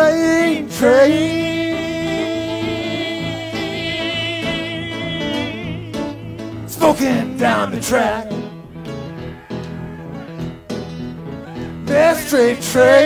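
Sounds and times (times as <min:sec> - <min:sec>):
band bass and backing: 0:00.0 - 0:13.0.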